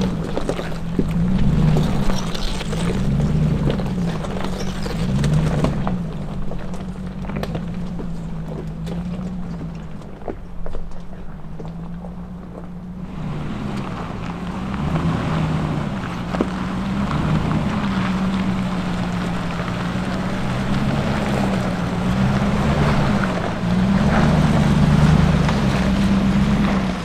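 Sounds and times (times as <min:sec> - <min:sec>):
tyres crunching on rock and gravel: 0:00.0 - 0:27.0.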